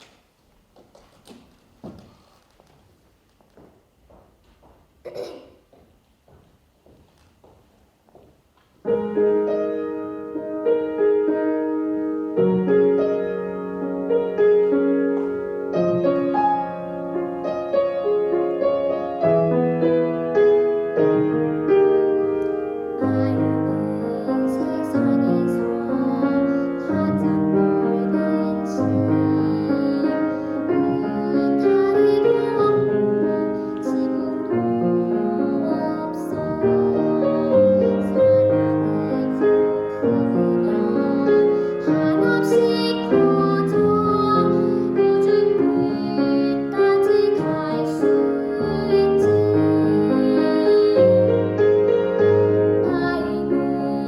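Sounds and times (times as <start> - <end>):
piano accompaniment: 8.4 - 54.0.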